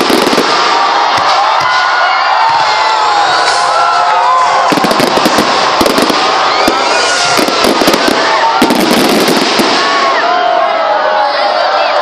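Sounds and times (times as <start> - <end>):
fireworks bangs and crackles: 0.0 - 10.8.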